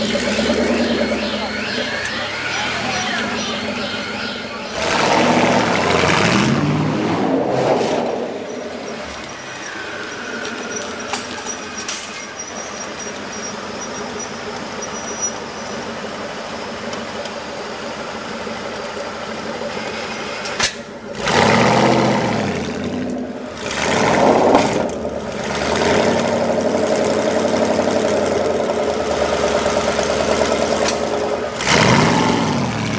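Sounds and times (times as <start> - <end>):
car engine running and revving: 0.0 - 12.0, 12.6 - 32.9.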